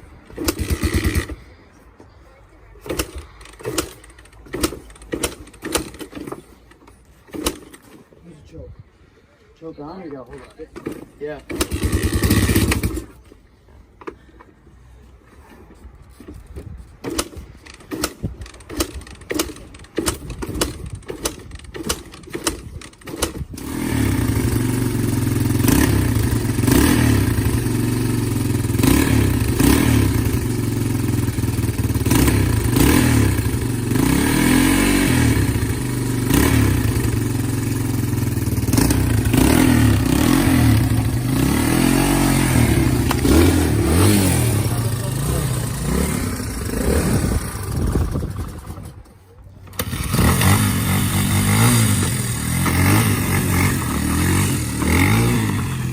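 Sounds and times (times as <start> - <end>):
motorcycle engine revving: 0.0 - 1.6, 2.8 - 6.4, 10.8 - 13.3, 17.0 - 55.9.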